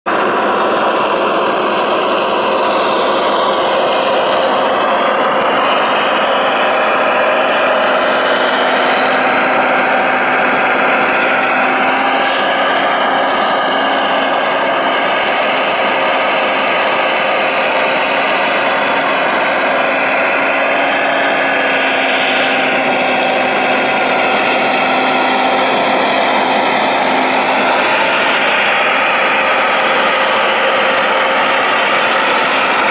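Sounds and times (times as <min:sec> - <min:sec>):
model excavator hydraulic whine: 0:00.1 - 0:32.9.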